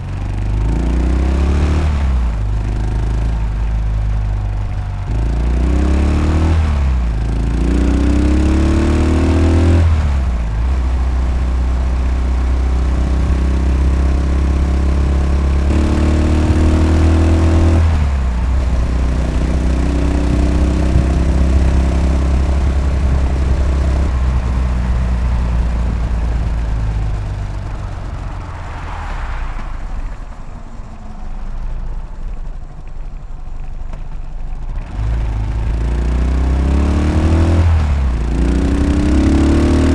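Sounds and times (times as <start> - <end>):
motorcycle engine revving and cruising: 0.0 - 39.9.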